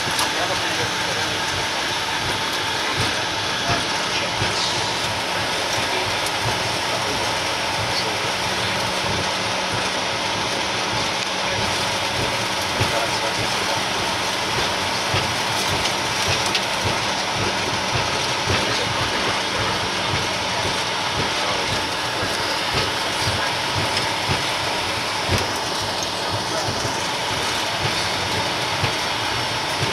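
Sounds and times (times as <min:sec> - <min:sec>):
jet cockpit rushing noise: 0:00.0 - 0:29.9.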